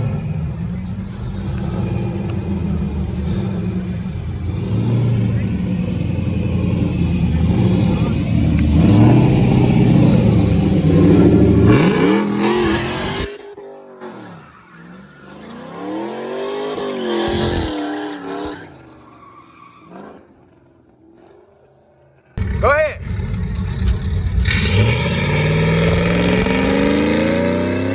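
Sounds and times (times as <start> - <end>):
car engine revving: 0.0 - 18.8, 22.4 - 27.9.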